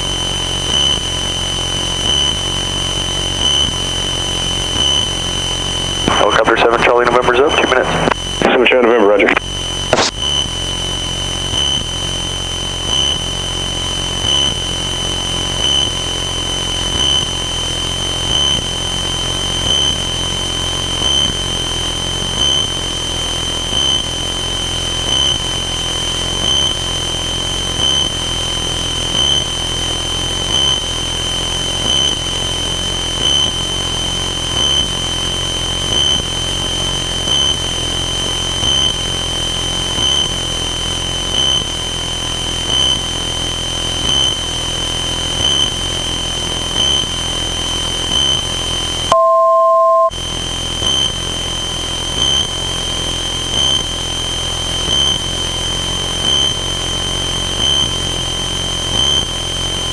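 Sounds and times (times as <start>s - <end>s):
high-pitched whine: 0.0s - 59.9s.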